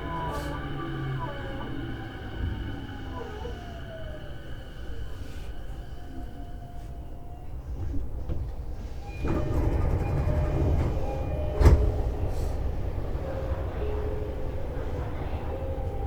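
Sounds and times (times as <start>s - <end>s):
train interior noise: 0.0s - 16.0s.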